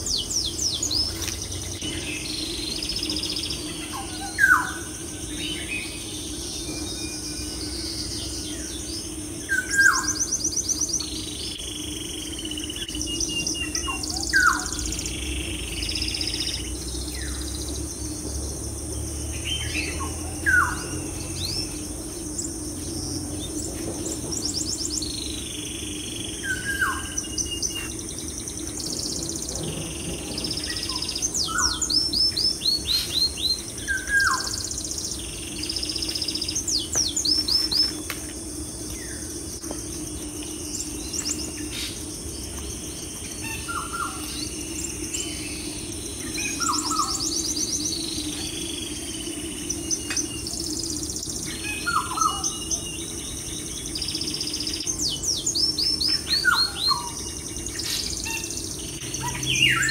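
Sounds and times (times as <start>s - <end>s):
birds chirping: 0.0s - 59.9s
steady low hum: 0.0s - 59.9s.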